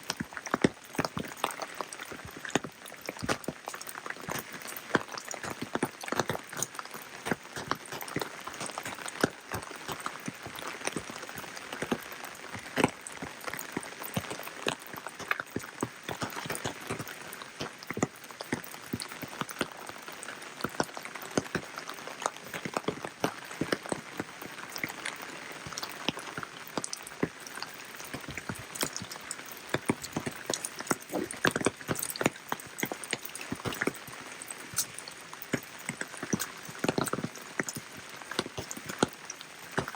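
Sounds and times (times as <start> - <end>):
raindrops ticking on surfaces: 0.0 - 39.9.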